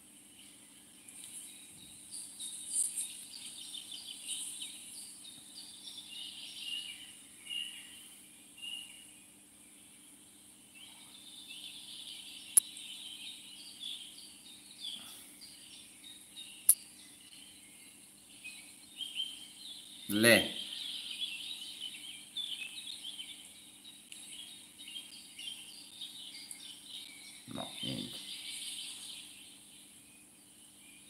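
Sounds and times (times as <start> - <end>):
birds chirping and whistling: 1.3 - 9.2, 10.8 - 30.3.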